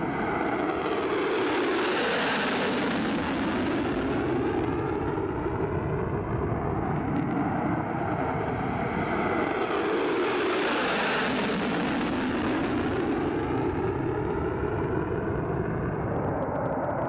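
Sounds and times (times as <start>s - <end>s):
aircraft engine roar: 0.0s - 17.0s.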